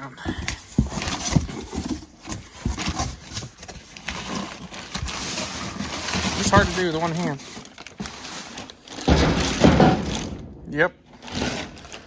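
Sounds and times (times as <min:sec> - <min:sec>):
rustling: 0:00.0 - 0:10.4, 0:11.1 - 0:12.0.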